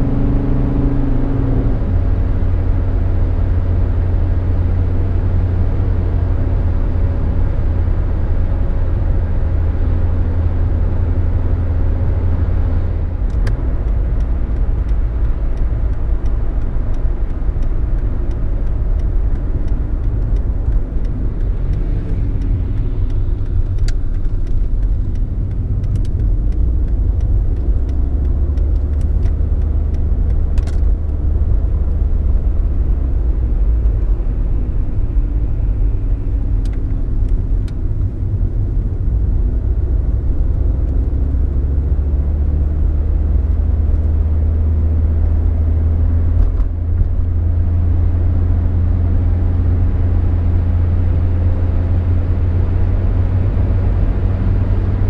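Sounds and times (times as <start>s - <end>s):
low road rumble: 0.0s - 55.0s
turbodiesel car engine pulling: 0.0s - 55.0s.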